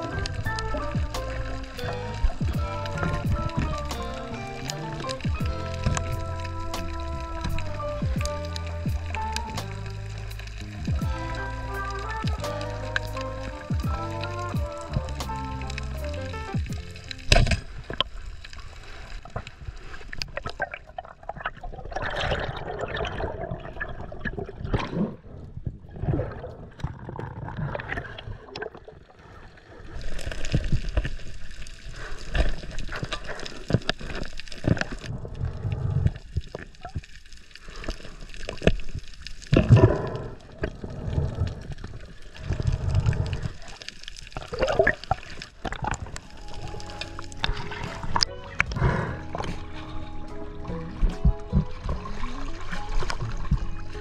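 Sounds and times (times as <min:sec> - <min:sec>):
water gurgling underwater: 0:00.0 - 0:54.0.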